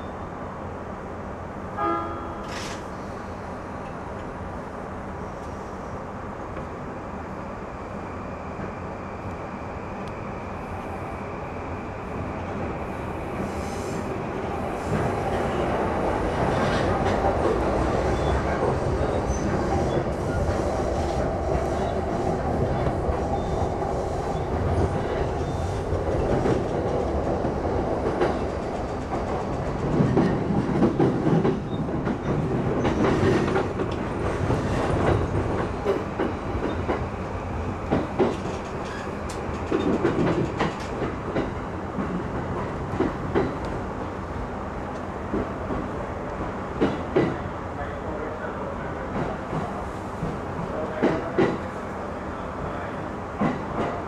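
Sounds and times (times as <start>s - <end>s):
train rolling noise: 0.0s - 54.0s.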